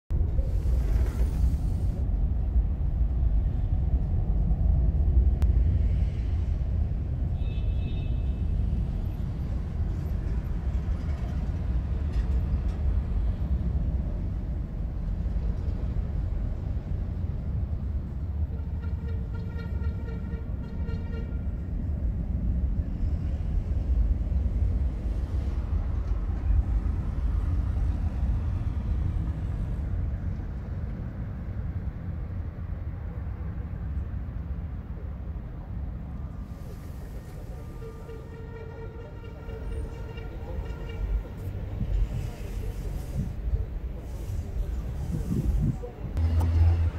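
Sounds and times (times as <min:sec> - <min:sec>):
aircraft engines rumbling overhead: 0:00.1 - 0:46.9.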